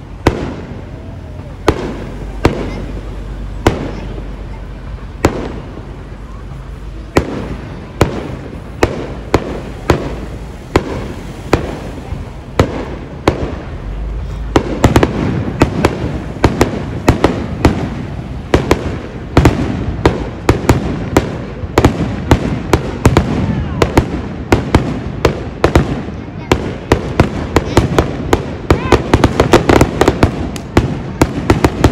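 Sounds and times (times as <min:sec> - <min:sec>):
fireworks bursting bangs: 0:00.0 - 0:31.9
fireworks rumble: 0:00.0 - 0:31.9.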